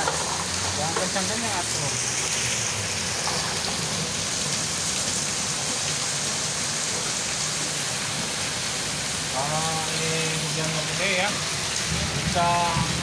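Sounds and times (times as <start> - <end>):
heavy rain on puddles: 0.0 - 13.0.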